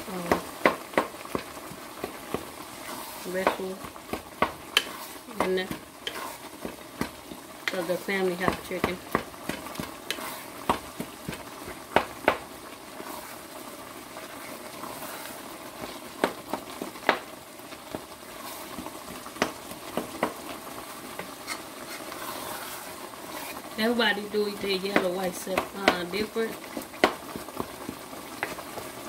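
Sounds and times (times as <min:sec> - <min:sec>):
vegetables sizzling: 0:00.0 - 0:29.0
wooden spoon scraping a pot: 0:00.2 - 0:13.6, 0:14.2 - 0:16.9, 0:18.0 - 0:20.5, 0:21.1 - 0:28.9.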